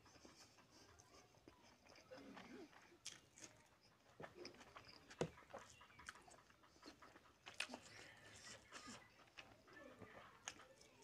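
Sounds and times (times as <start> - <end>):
chewing: 0.0 - 11.0.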